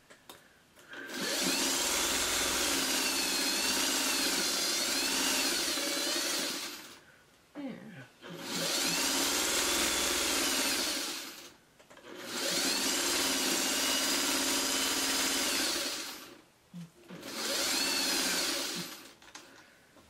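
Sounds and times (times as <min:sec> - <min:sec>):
electric sewing machine stitching: 0:01.0 - 0:07.0, 0:08.2 - 0:16.4, 0:17.1 - 0:19.2.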